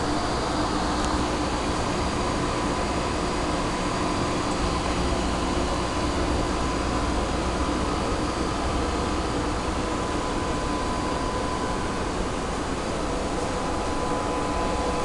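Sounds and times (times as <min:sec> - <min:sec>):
machine hiss and hum: 0:00.0 - 0:15.0.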